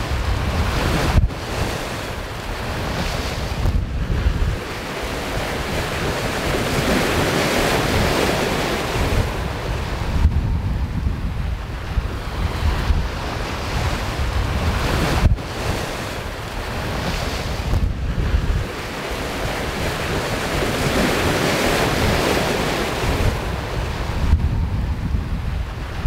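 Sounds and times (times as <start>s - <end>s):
waves breaking along hull: 0.0s - 26.0s
wind buffeting microphone: 0.0s - 26.0s.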